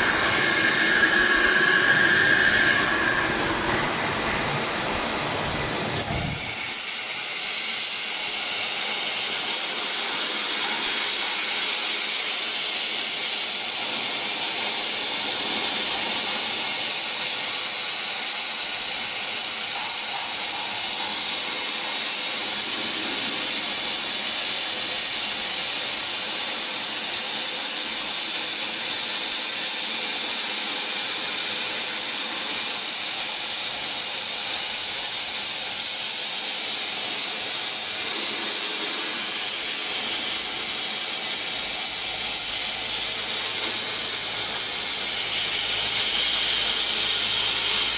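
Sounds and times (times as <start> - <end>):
abrasive blasting nozzle hissing: 0.0 - 47.9.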